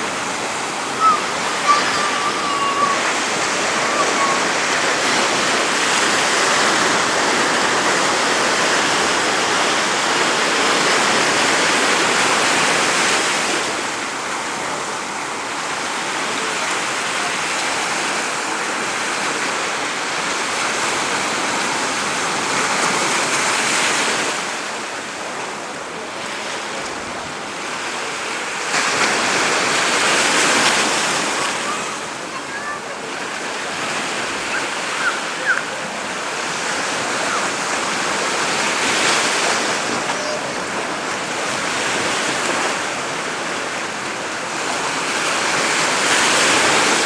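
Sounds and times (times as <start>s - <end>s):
waves breaking: 0.0s - 47.0s.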